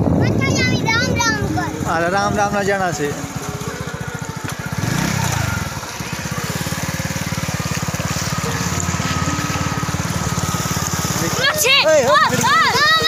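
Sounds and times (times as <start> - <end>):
small engine running and revving: 0.8 - 13.0.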